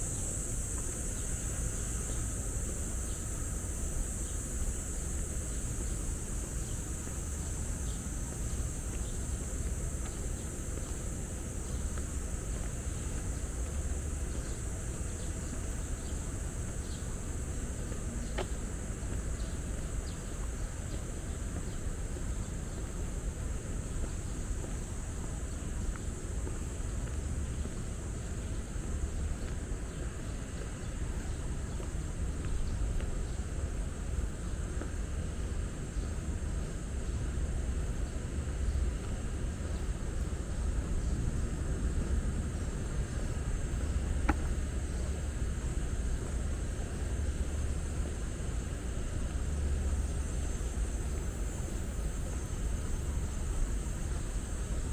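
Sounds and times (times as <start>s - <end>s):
insect chorus: 0.0s - 54.9s
low continuous rumble: 0.0s - 54.9s.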